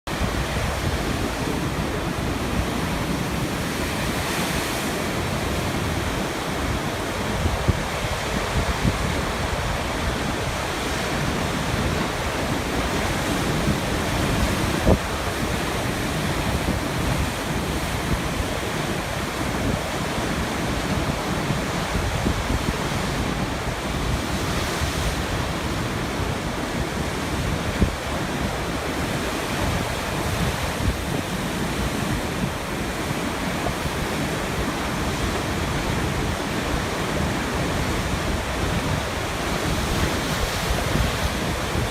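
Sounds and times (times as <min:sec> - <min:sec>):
waves breaking on rocks: 0:00.1 - 0:41.9
wind noise on microphone: 0:00.1 - 0:41.9.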